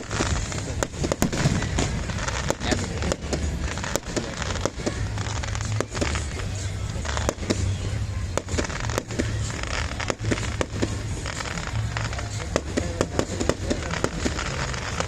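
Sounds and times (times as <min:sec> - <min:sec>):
fireworks bangs and crackles: 0:00.0 - 0:15.0
music with low bass: 0:00.0 - 0:15.0.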